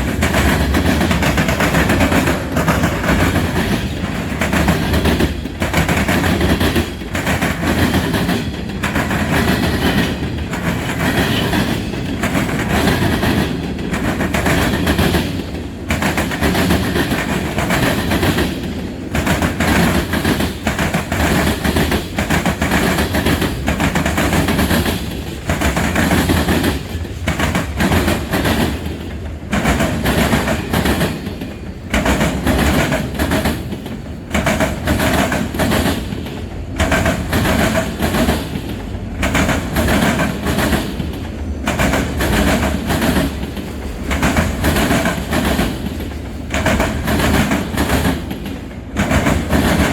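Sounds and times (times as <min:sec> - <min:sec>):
steel wheels rumbling on rails: 0:00.0 - 0:49.9.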